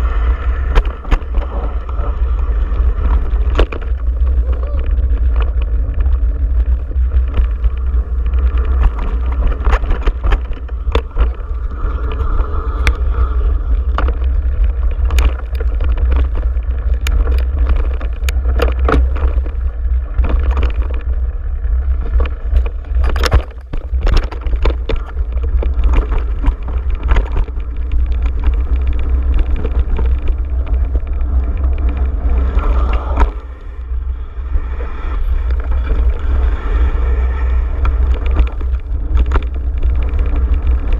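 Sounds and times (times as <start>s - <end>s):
bike clicks and rattles: 0.0s - 40.9s
bike tyres on dirt: 0.0s - 40.9s
wind rumble on microphone: 0.0s - 40.9s.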